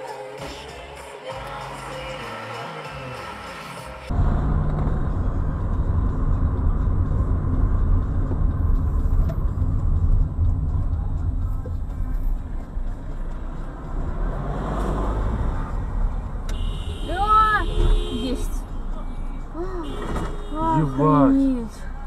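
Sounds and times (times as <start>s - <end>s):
car engine and road rumble: 3.9s - 22.0s.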